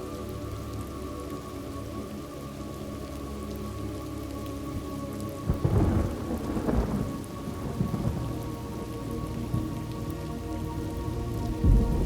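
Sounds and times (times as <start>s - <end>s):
soft background music: 0.0s - 12.0s
steady rain falling: 0.0s - 12.0s.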